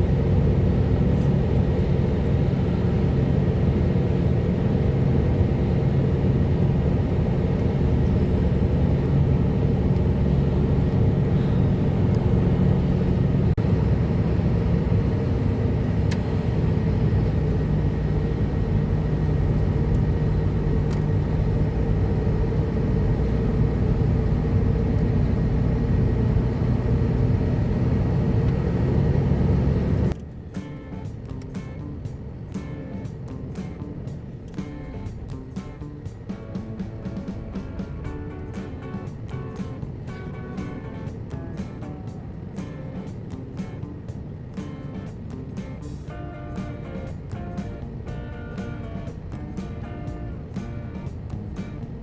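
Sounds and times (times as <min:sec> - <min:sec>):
truck diesel engine running: 0:00.0 - 0:52.0.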